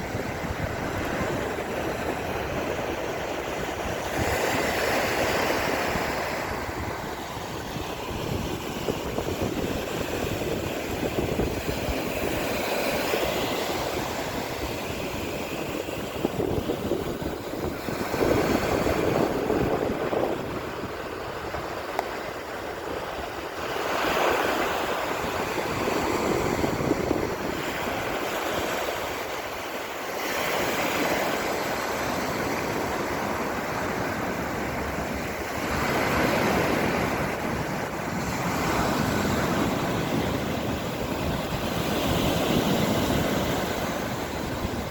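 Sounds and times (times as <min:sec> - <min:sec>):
sea waves breaking on shore: 0:00.0 - 0:44.9
wind buffeting microphone: 0:00.0 - 0:44.9.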